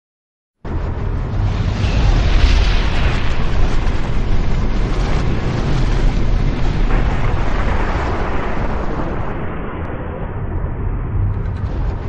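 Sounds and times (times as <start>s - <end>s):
fire blast rumbling roar: 0.6s - 12.0s.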